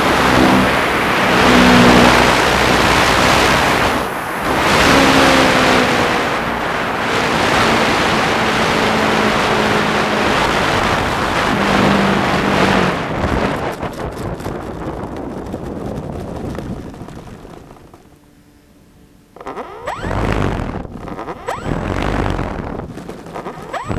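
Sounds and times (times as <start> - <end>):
wind rushing over microphone: 0.0 - 18.4, 19.4 - 23.9
model plane motor hum: 0.0 - 18.7, 19.3 - 23.9
wheels rattling over tarmac: 0.0 - 23.9.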